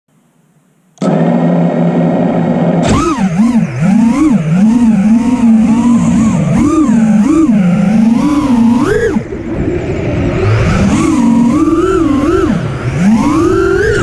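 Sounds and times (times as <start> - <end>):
drone motors whining: 1.0 - 14.0.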